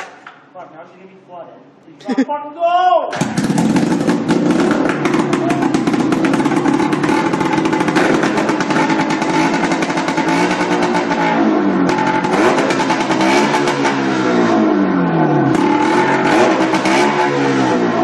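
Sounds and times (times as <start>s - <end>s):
two-stroke engine revving: 3.1s - 18.0s.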